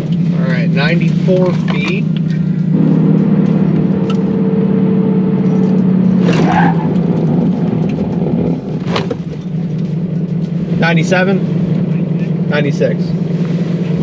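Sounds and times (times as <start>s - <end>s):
road noise: 0.0s - 14.0s
truck engine running: 0.0s - 14.0s.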